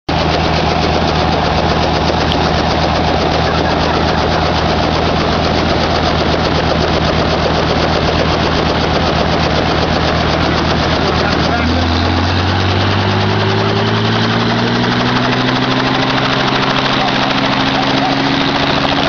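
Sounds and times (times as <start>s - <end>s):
helicopter engine and rotor drone: 0.1s - 19.0s.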